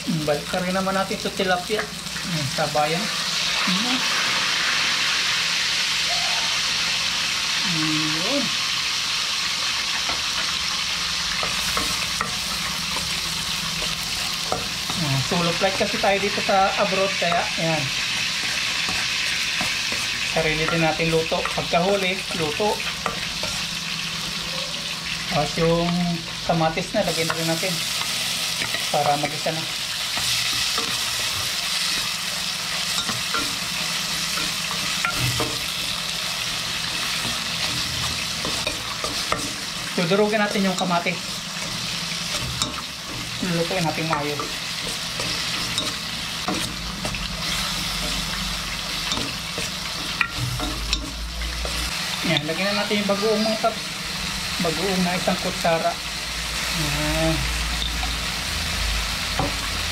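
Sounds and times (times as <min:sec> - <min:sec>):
oil sizzling in a frying pan: 0:00.0 - 0:59.9.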